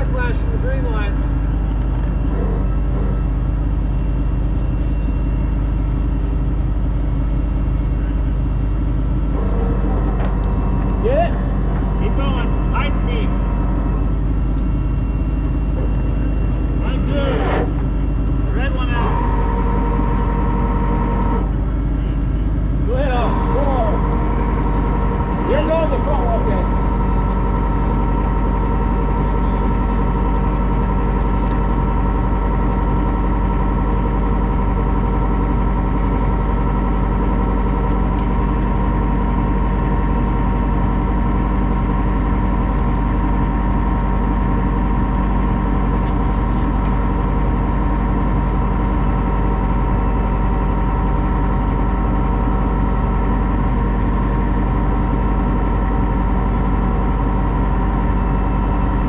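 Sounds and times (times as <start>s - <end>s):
diesel engine running at high speed: 0.0s - 59.0s.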